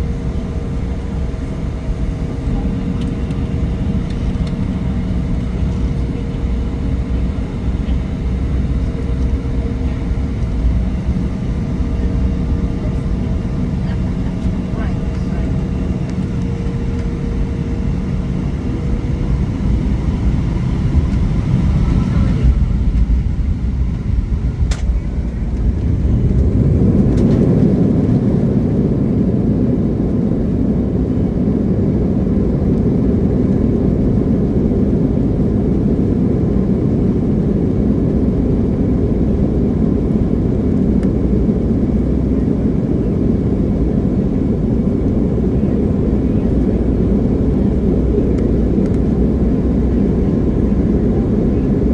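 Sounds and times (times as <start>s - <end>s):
jet engines and airflow rumble: 0.0s - 51.9s.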